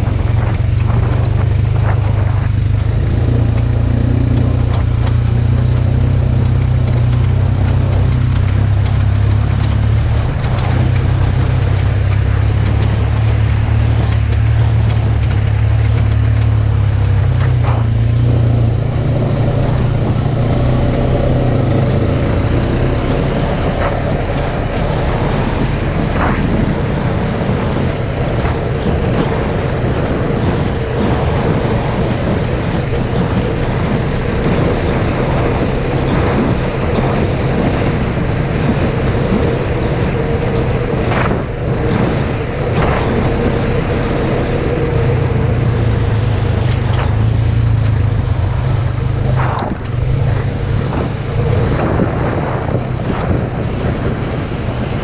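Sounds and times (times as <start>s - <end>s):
vehicle engine running: 0.0s - 55.0s
sharp clacks: 0.4s - 39.8s, 46.5s - 53.6s.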